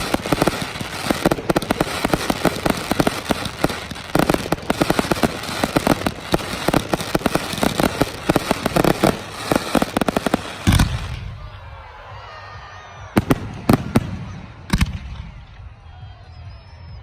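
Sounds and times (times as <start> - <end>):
fireworks bangs and crackles: 0.0 - 16.6.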